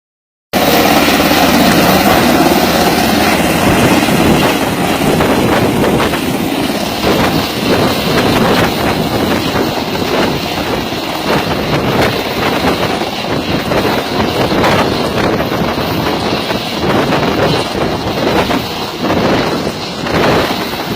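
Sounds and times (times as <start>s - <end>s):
helicopter running: 0.6s - 20.9s.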